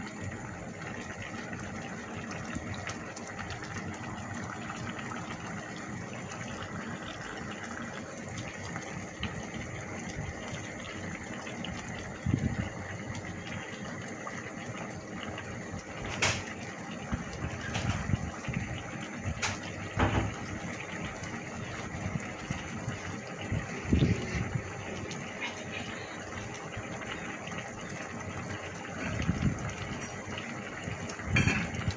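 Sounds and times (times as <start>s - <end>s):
sauce bubbling in a pan: 0.0s - 31.9s.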